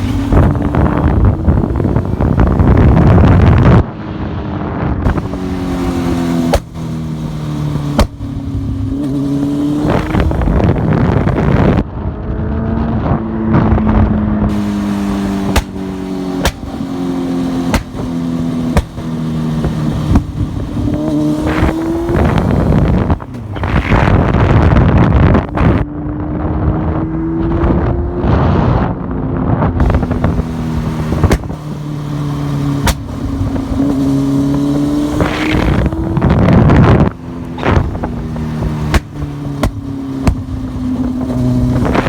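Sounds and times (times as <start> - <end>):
motorcycle engine revving through gears: 0.0 - 42.0.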